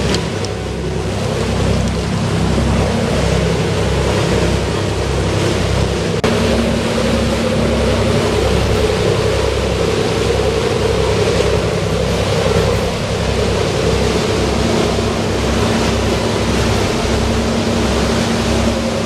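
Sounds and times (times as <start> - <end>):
boat engine drone: 0.0 - 19.0
rushing water: 0.0 - 19.0
wind: 0.0 - 19.0.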